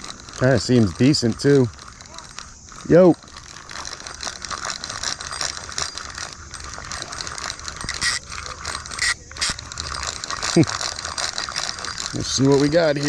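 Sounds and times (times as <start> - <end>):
fishing reel clicking rattle: 0.0 - 13.0.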